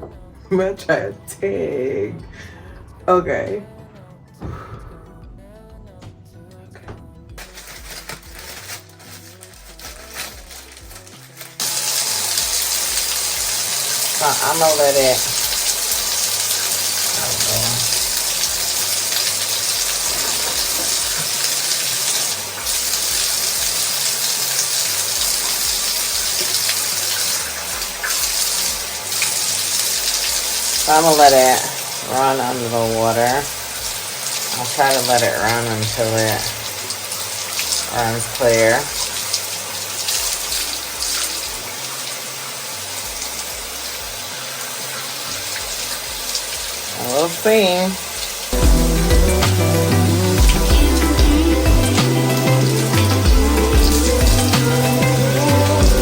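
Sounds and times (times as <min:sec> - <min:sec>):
tap water running: 0:07.4 - 0:56.0.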